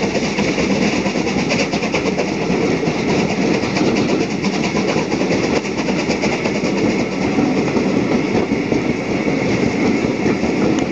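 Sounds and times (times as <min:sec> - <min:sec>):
steam locomotive exhaust beats: 0:00.0 - 0:10.9
train wheels on rails: 0:00.0 - 0:10.9.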